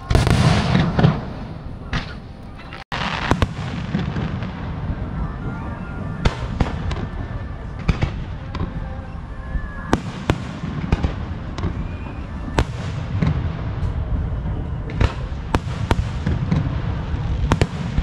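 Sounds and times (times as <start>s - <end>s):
fireworks bursting with sharp bangs: 0.0s - 18.0s
low rumble and crackle of fireworks: 0.0s - 18.0s.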